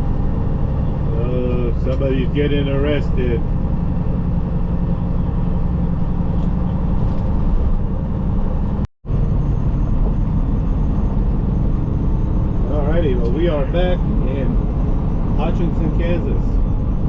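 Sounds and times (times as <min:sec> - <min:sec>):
diesel truck engine drone: 0:00.0 - 0:17.0
road noise inside cab: 0:00.0 - 0:17.0.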